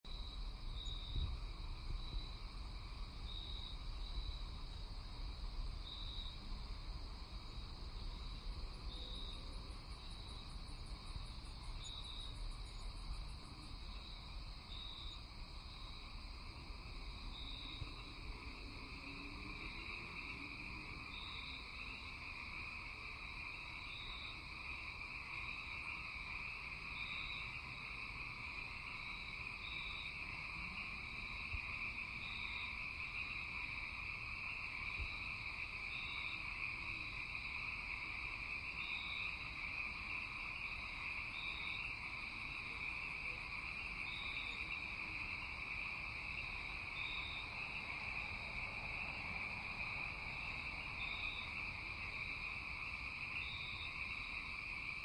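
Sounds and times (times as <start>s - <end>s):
crickets trilling: 0.1s - 55.0s
insect chirping: 0.1s - 55.0s.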